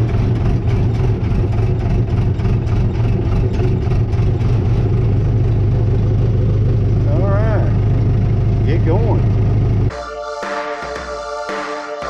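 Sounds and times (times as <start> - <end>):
bulldozer diesel engine running: 0.0 - 9.9.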